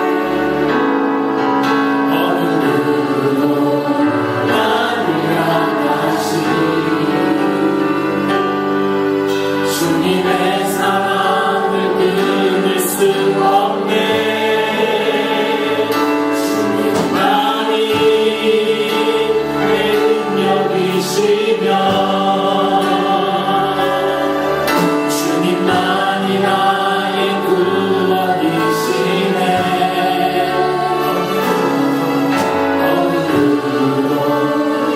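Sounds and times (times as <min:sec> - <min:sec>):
choir singing worship song: 0:00.0 - 0:34.9
musical accompaniment: 0:00.0 - 0:34.9.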